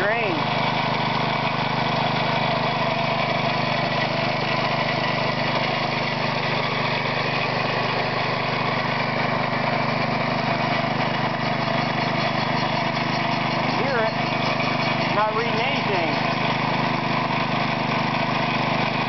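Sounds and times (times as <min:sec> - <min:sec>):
air compressor engine running: 0:00.0 - 0:19.0.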